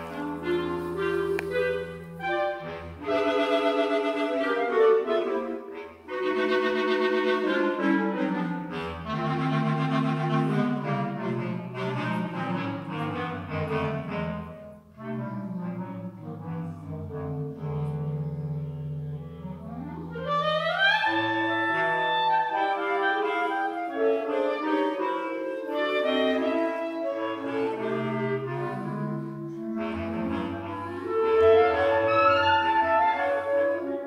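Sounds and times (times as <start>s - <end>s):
clarinet ensemble playing chords: 0.0s - 34.0s.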